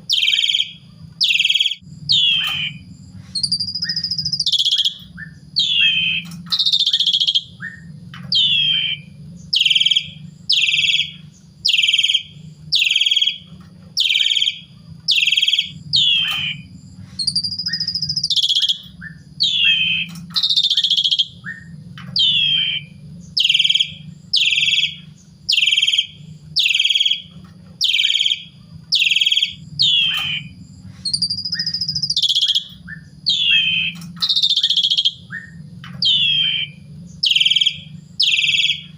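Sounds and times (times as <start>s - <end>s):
starling singing whistled notes: 0.0s - 38.9s.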